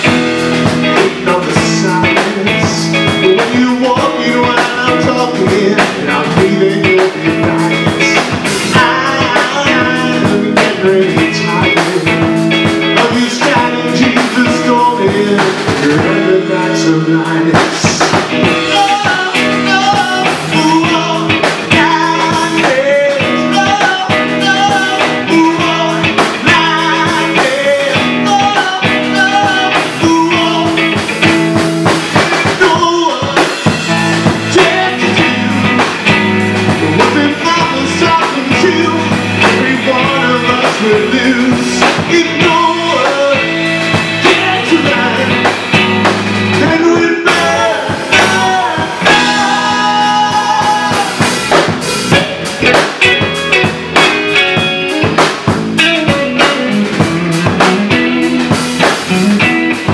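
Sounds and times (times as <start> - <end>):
drum kit: 0.0 - 59.9
electric bass: 0.0 - 59.9
electric guitar: 0.0 - 59.9.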